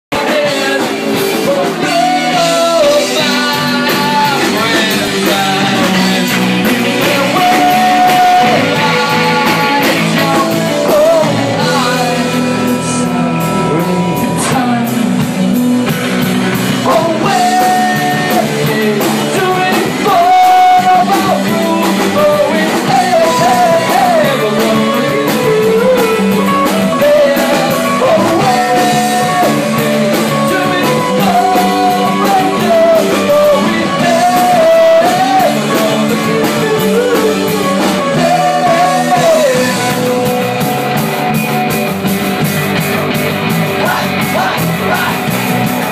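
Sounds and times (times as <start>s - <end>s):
live rock band playing: 0.1s - 45.9s.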